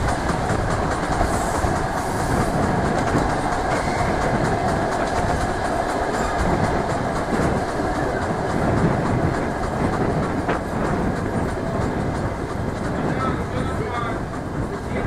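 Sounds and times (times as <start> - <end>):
rushing air: 0.0 - 15.0
train wheels rumbling on rails: 0.0 - 15.0.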